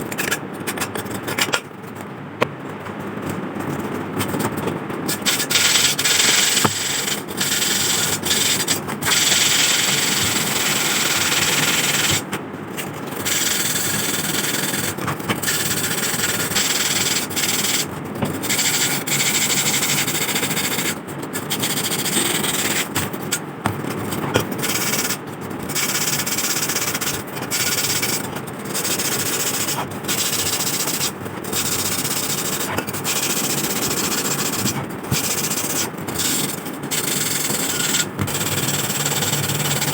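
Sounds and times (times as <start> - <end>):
emery paper sanding metal: 5.1 - 12.3, 13.1 - 23.4, 24.6 - 39.9.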